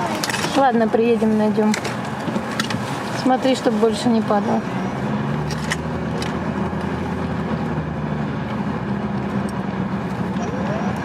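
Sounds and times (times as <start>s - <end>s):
road and engine noise in car: 0.0s - 11.0s.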